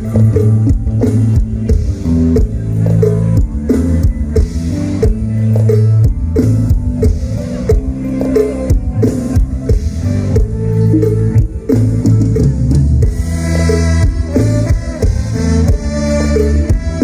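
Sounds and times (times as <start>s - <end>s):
drum kit: 0.0s - 17.0s
heavy bass line: 0.0s - 17.0s.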